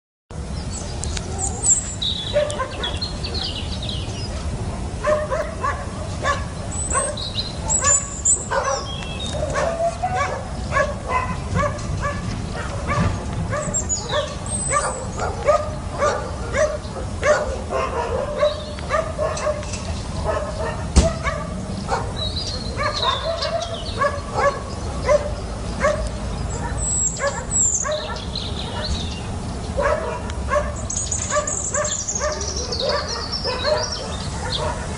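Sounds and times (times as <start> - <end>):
dogs barking and yipping: 1.2 - 34.9.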